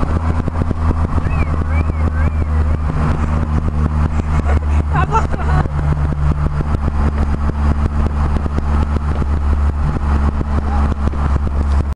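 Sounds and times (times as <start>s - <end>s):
car engine running steadily: 0.0s - 11.9s.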